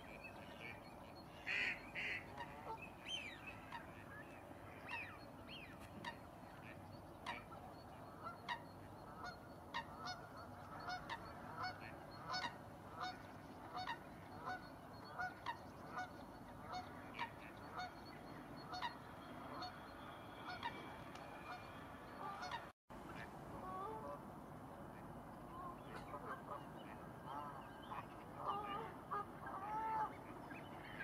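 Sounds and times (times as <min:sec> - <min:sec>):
waterfowl honking calls: 0:00.6 - 0:24.2, 0:25.6 - 0:31.0.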